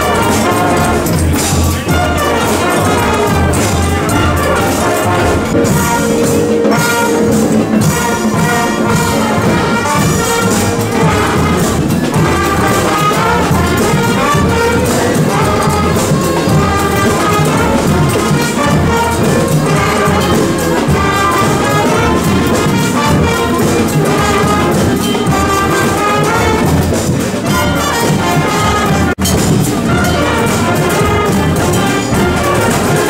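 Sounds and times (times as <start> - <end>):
brass band playing: 0.0 - 33.0.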